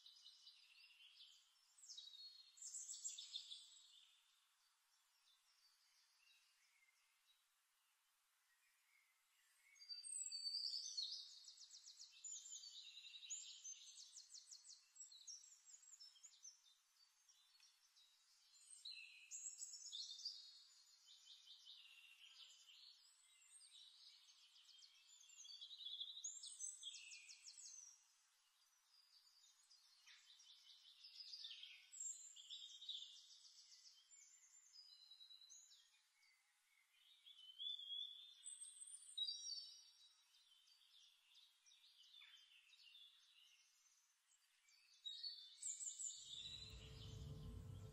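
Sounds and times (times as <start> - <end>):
songbirds trilling and chirping: 8.7 - 47.9.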